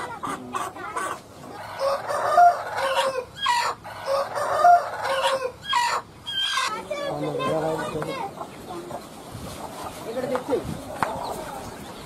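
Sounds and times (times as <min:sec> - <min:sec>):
chickens clucking: 0:00.0 - 0:12.0
drawn-out chicken calls: 0:00.0 - 0:12.0.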